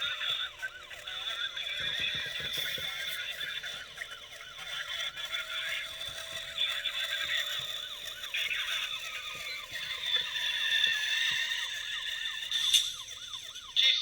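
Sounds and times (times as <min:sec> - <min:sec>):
electronic police siren yelp: 0:00.0 - 0:14.0.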